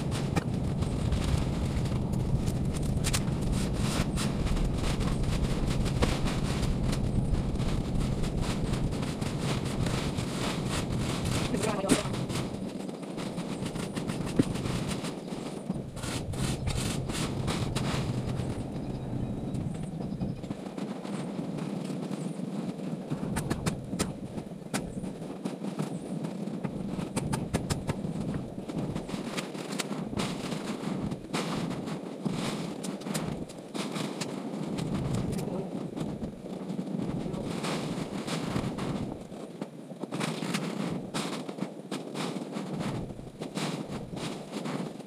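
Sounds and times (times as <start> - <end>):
crackles and knocks: 0.0 - 45.0.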